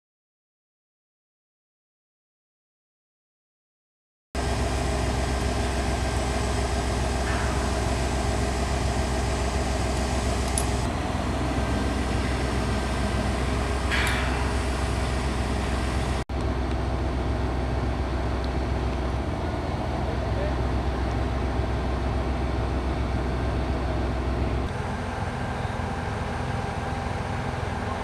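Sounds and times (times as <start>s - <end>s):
crane engine running: 4.4s - 28.0s.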